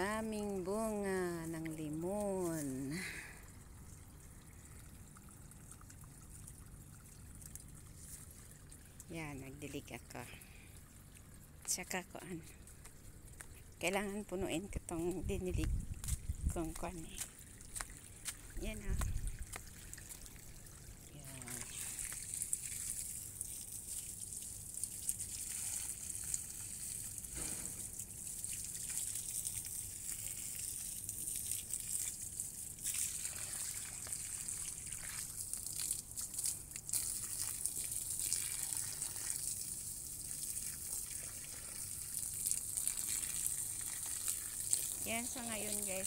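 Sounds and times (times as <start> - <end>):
water from hose pouring: 0.0 - 11.5, 17.3 - 46.0.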